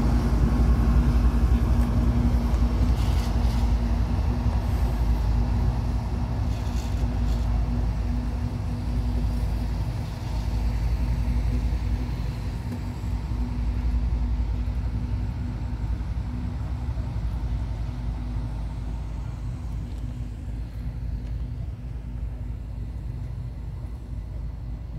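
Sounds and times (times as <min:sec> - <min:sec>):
diesel locomotive rumbling: 0:00.0 - 0:24.9.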